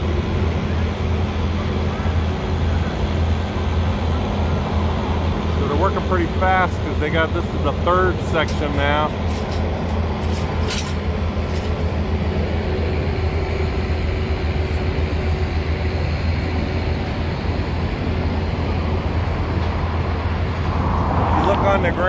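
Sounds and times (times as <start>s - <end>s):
low mechanical drone: 0.0s - 22.0s.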